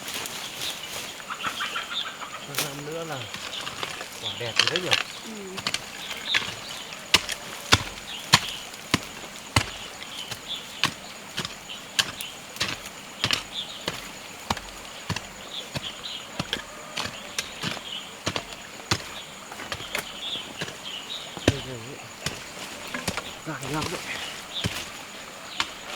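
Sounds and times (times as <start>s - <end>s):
hand tool chopping: 2.5s - 25.9s.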